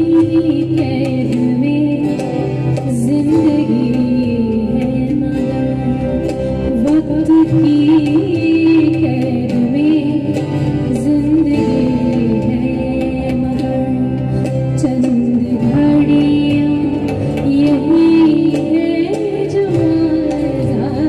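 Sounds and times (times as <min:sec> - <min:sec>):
guitar: 0:00.0 - 0:21.0
keyboard: 0:00.0 - 0:21.0
tabla: 0:00.0 - 0:21.0
woman singing: 0:00.0 - 0:21.0.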